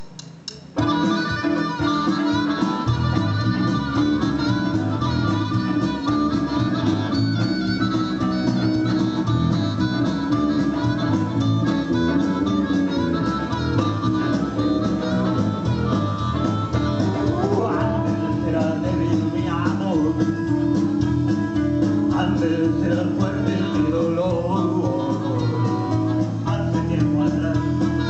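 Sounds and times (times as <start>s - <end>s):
blues band playing: 0.0s - 28.0s.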